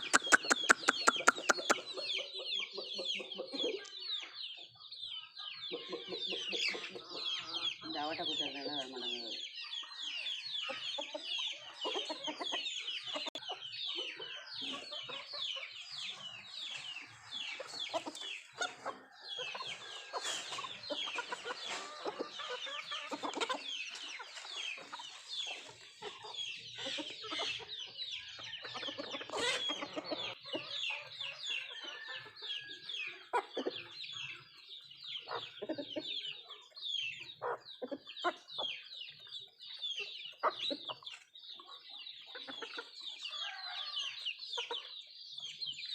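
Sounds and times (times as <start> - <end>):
chickens clucking and chirping: 0.0 - 45.9.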